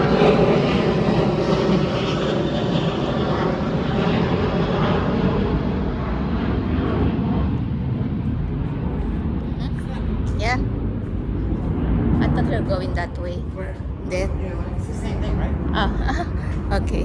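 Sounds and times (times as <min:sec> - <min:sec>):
jet passing overhead: 0:00.0 - 0:17.0.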